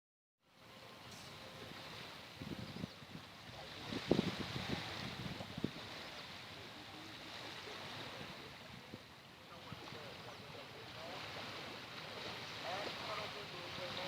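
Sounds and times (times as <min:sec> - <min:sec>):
faint distant voices: 0:00.5 - 0:14.0
surf washing up beach: 0:00.5 - 0:14.0.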